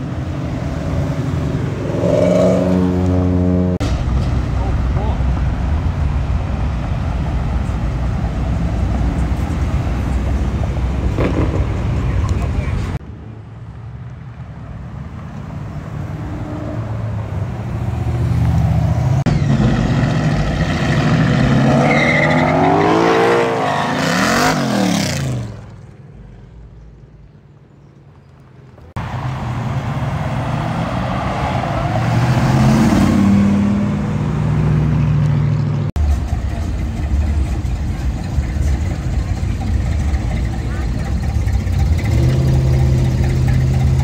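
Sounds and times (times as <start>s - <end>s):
car engines driving past: 0.0s - 44.0s.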